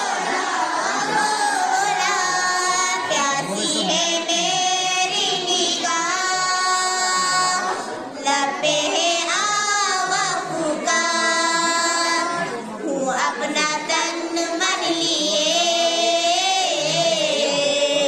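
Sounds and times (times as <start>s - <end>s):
girl singing devotional song: 0.2s - 18.0s.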